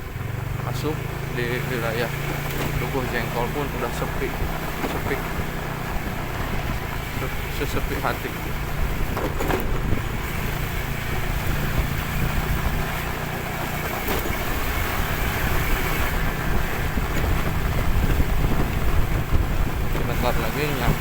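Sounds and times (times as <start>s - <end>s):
road and wind noise: 0.0s - 21.0s
vehicle engine droning: 0.0s - 21.0s.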